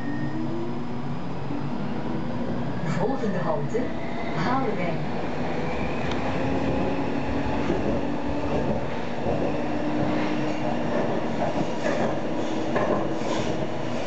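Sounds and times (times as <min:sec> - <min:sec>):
tram wheels rumbling on rails: 0:00.4 - 0:14.0.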